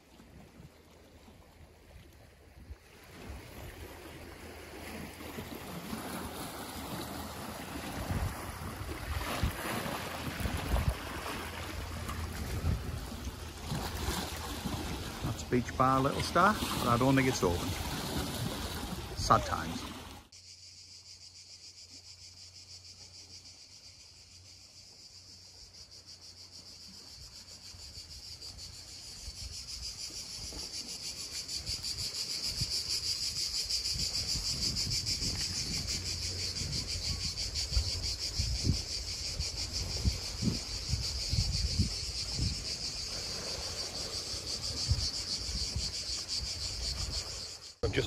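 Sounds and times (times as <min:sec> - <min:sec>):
cicadas buzzing: 0:03.3 - 0:48.0.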